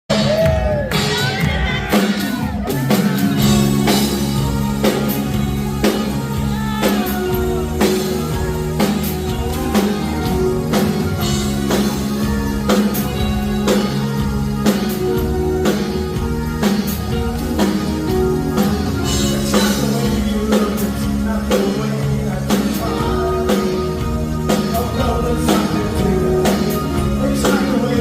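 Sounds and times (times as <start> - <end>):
drum kit beat: 0.1 - 28.0
guitar: 0.1 - 28.0
sustained bass notes: 0.1 - 28.0.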